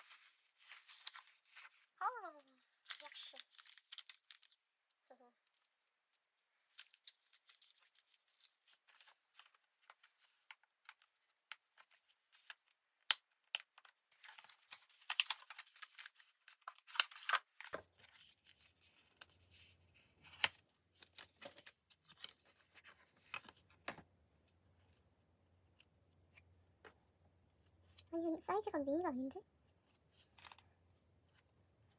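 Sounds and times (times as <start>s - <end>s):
plastic and paper crinkling: 0.0s - 4.8s, 5.4s - 25.1s, 25.7s - 31.9s.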